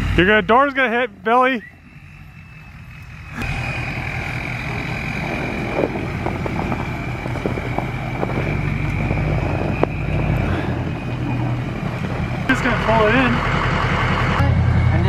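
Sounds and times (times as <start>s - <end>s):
car engine running: 0.0s - 15.0s
high whine: 0.0s - 15.0s.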